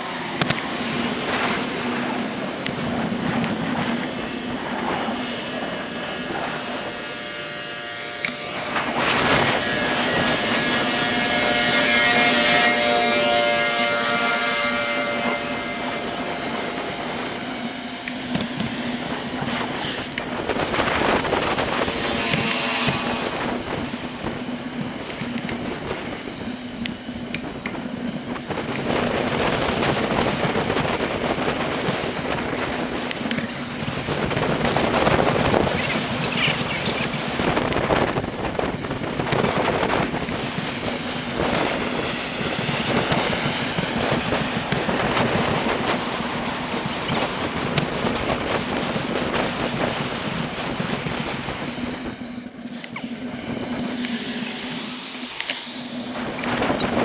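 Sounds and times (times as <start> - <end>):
rolling road noise: 0.0 - 57.0
wind on microphone: 0.0 - 57.0.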